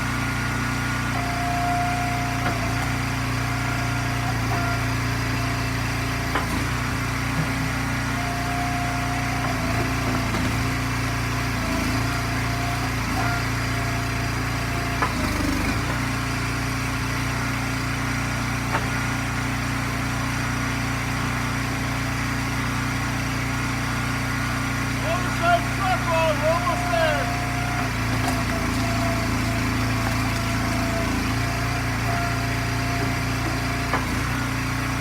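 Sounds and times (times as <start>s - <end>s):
log splitter gas engine running: 0.0s - 35.0s.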